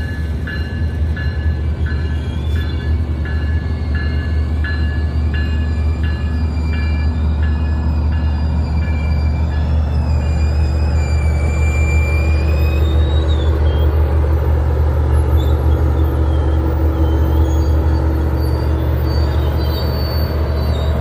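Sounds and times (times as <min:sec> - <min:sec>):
diesel locomotive engine rumble: 0:00.0 - 0:21.0.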